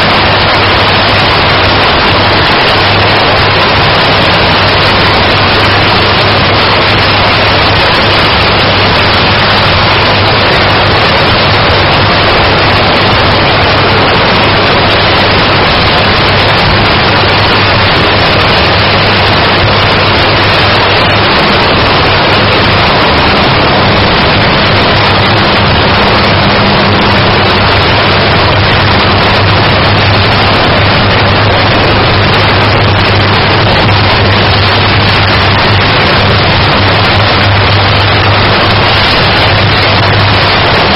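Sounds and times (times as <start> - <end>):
constant low hum: 0.0 - 40.9
electric arc crackling roar: 0.0 - 40.9.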